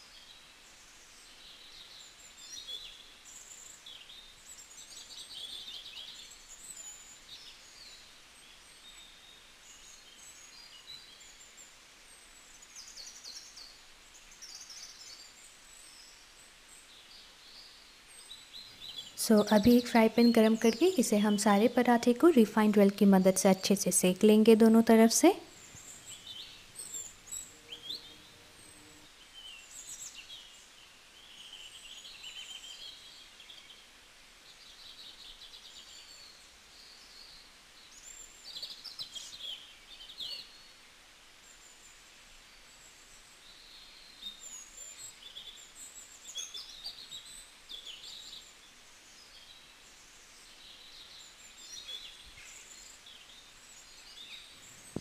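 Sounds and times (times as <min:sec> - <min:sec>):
low background hiss: 0:00.0 - 0:55.0
small birds chirping: 0:00.0 - 0:55.0.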